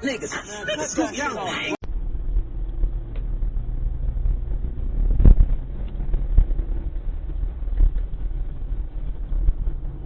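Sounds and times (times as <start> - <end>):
vehicle rumble: 0.3 - 10.0
wind buffeting microphone: 1.9 - 10.0.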